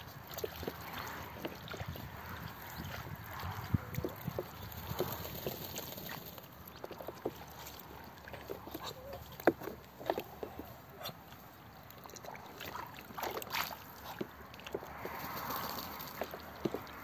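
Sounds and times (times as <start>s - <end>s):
ducks splashing in water: 0.0s - 17.0s.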